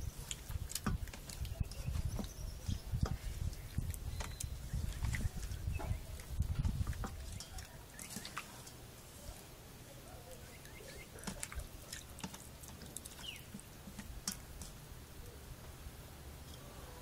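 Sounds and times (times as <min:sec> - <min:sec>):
hands kneading wet meat: 0:00.0 - 0:15.4.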